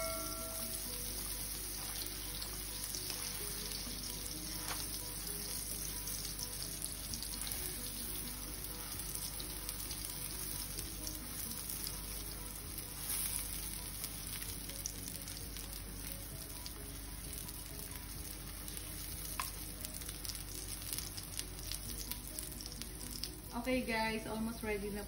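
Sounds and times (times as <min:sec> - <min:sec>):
patties sizzling on a griddle: 0:00.0 - 0:25.0.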